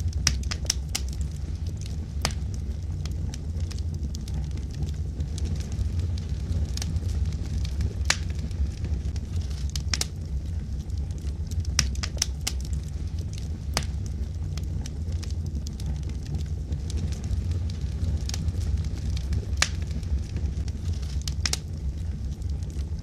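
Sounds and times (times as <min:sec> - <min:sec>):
burning logs crackling and popping: 0:00.0 - 0:23.0
fire flames rumbling: 0:00.0 - 0:23.0.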